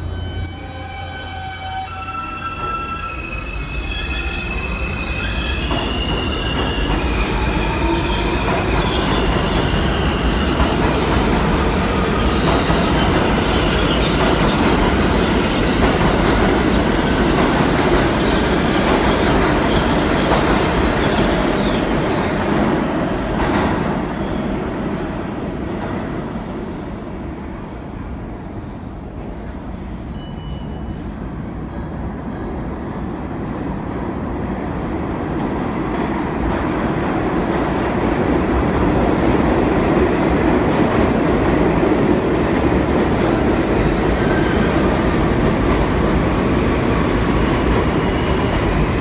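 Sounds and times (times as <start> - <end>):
subway train rumbling past: 0.0 - 49.0.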